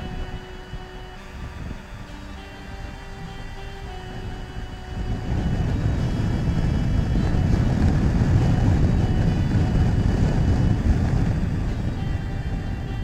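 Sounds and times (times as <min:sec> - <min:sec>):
motorcycle engine: 0:00.0 - 0:13.0
traffic noise: 0:00.0 - 0:13.0
wind: 0:00.0 - 0:13.0.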